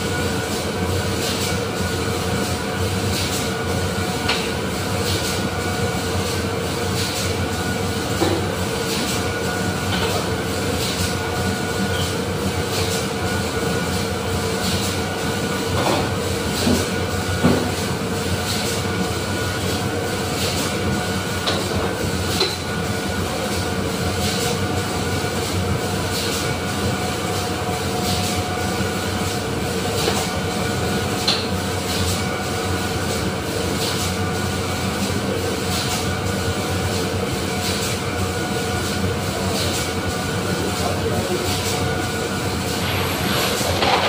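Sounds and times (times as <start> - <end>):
machinery hum with high tones: 0.0 - 44.0.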